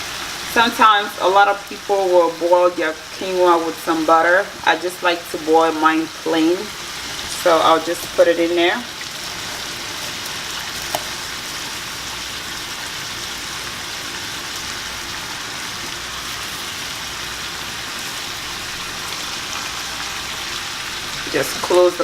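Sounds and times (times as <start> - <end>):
shrimp sizzling in a pan: 0.0 - 22.0.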